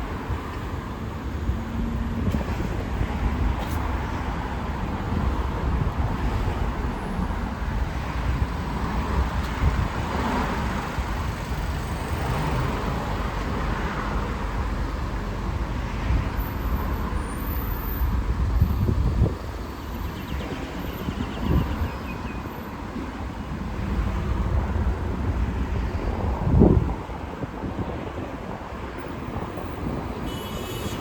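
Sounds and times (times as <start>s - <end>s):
passing cars rumbling: 0.0s - 31.0s.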